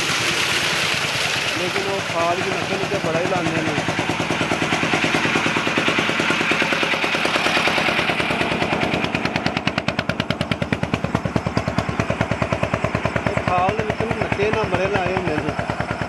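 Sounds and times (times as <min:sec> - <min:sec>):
diesel engine driving pump: 0:00.0 - 0:16.0.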